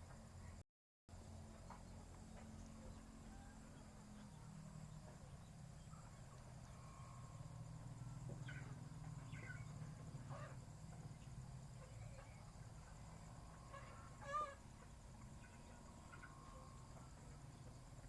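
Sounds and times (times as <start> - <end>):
steady low hum: 0.0 - 18.0
faint frog calls: 1.6 - 18.0.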